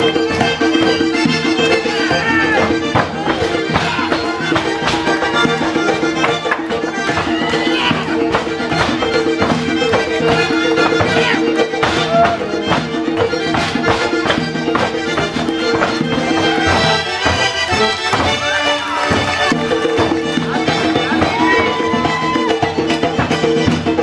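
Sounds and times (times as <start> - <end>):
folk dance music: 0.0 - 24.0
quick driving beat: 0.0 - 24.0.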